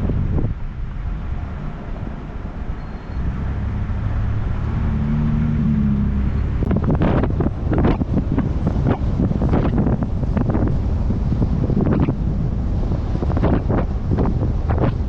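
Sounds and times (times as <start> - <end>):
car engine and road rumble: 0.0 - 15.0
flat engine hum: 0.0 - 15.0
wind buffeting: 0.0 - 15.0.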